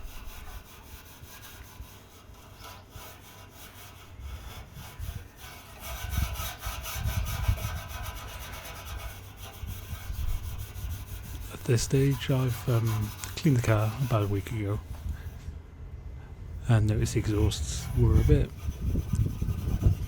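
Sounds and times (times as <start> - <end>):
wire wool scrubbing metal: 0.0 - 15.4, 16.8 - 20.0.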